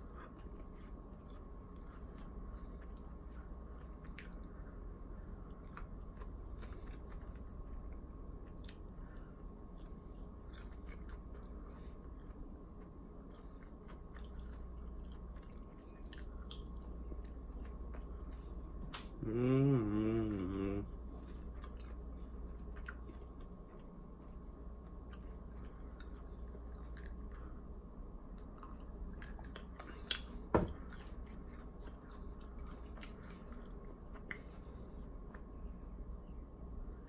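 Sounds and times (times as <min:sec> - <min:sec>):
man chewing and biting food: 0:00.0 - 0:36.1
steady low hum: 0:00.0 - 0:37.0.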